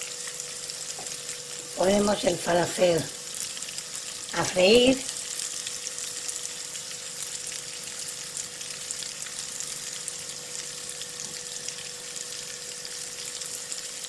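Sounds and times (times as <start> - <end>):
faint steady hum: 0.0 - 14.0
patties sizzling in oil: 0.0 - 14.0.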